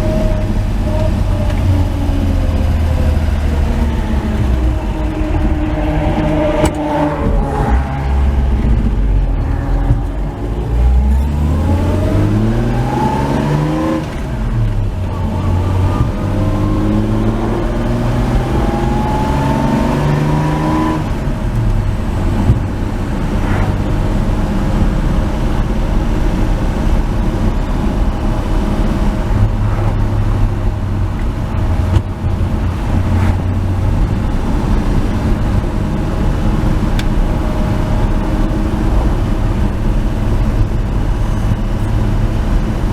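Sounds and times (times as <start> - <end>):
pickup engine accelerating: 0.0 - 42.9.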